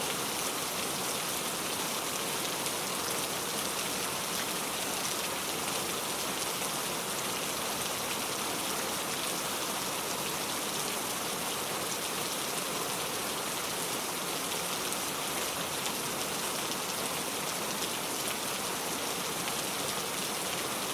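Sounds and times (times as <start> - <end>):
heavy rain falling: 0.0 - 20.9.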